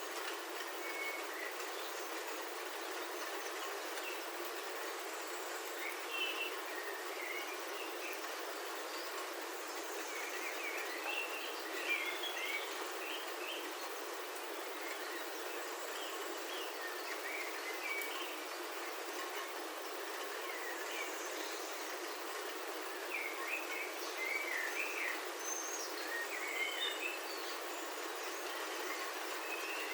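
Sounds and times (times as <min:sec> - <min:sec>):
rain on a roof: 0:00.0 - 0:26.6, 0:27.2 - 0:29.9.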